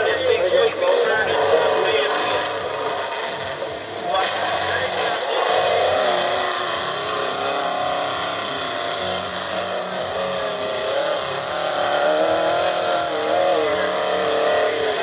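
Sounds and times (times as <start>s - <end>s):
engine revving hard: 0.0s - 15.0s.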